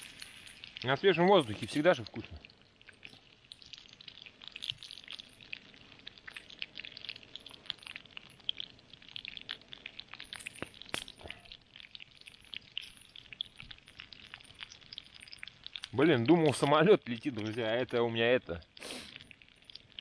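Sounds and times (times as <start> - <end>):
potatoes sizzling in a pan: 0.0 - 20.0.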